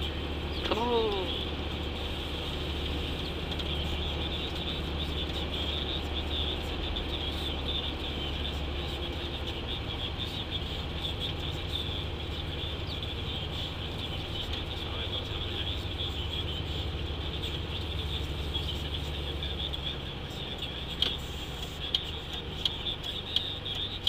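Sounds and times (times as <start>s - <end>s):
road noise: 0.0s - 24.0s
truck engine drone: 0.0s - 24.0s.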